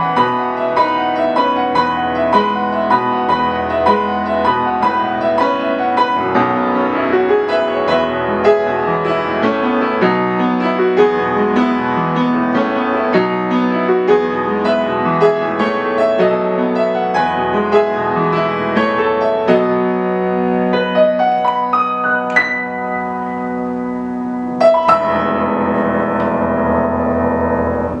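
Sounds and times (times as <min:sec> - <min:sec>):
solo piano music: 0:00.0 - 0:28.0.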